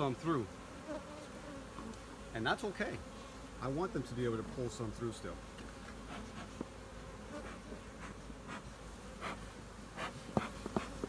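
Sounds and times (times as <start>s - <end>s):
bee smoker hissing puffs: 0.0s - 11.0s
bees buzzing: 0.0s - 11.0s.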